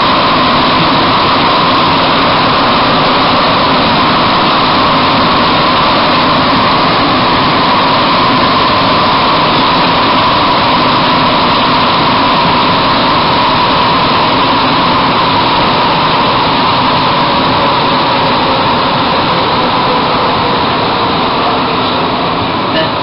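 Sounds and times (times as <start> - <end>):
constant high hum: 0.0 - 23.0
metro train rolling noise: 0.0 - 23.0.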